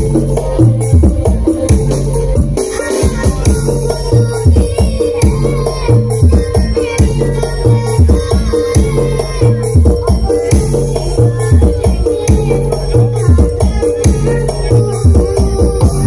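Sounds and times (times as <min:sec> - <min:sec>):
dense percussion: 0:00.0 - 0:16.0
heavy bass line: 0:00.0 - 0:16.0
loud music over sound system: 0:00.0 - 0:16.0.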